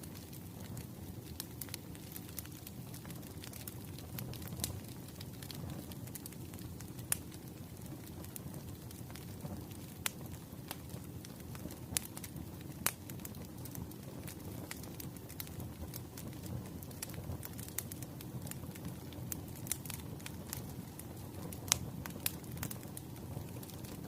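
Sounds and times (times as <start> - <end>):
flames rumbling in fireplace: 0.0 - 24.0
logs crackling and popping: 0.0 - 24.0.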